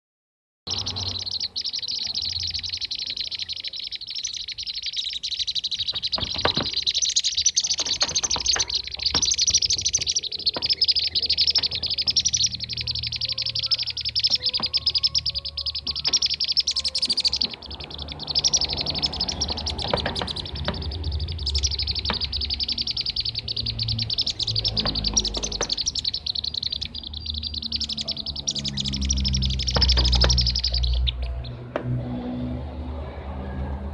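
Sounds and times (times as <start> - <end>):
bee-eaters calling: 0.7 - 31.6.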